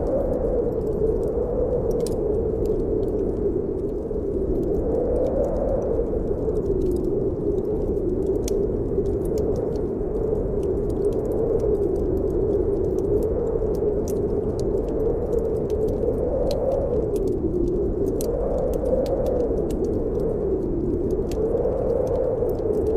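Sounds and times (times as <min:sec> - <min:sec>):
fireplace fire crackling: 0:00.0 - 0:22.9
snowstorm wind blowing: 0:00.0 - 0:22.9.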